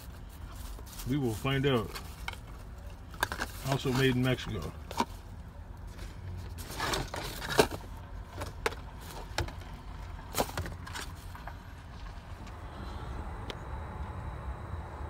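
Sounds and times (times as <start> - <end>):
handling clicks and rustles: 0.0 - 12.6.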